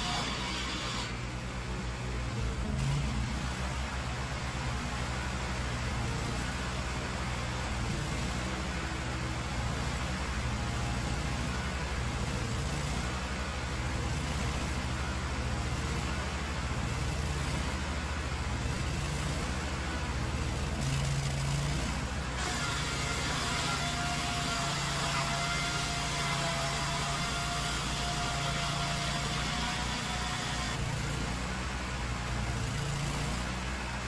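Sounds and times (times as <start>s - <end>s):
machinery engine droning: 0.0s - 34.0s.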